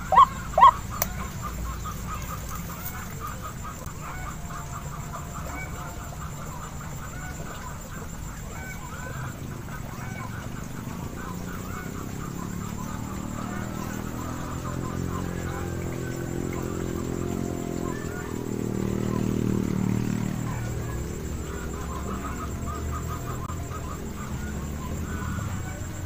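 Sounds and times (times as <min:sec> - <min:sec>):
waterhens croaking: 0:00.0 - 0:26.0.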